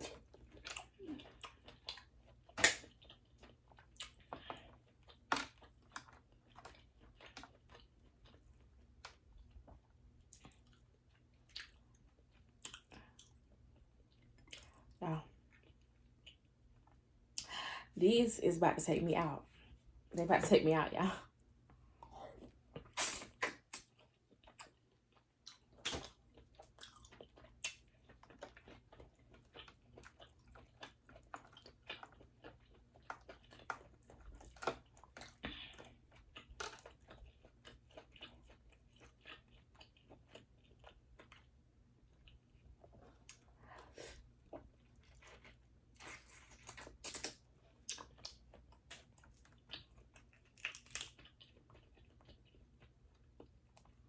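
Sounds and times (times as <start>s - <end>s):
person chewing shellfish: 0.0s - 17.5s, 21.7s - 54.0s.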